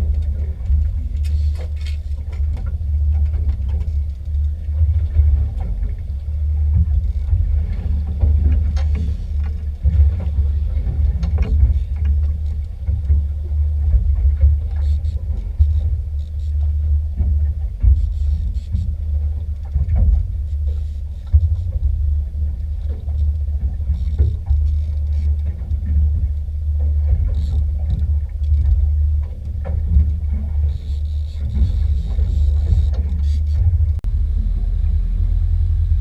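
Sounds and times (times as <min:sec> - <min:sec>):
faint clicks and knocks: 0:00.0 - 0:34.0
boat engine rumbling: 0:00.0 - 0:36.0.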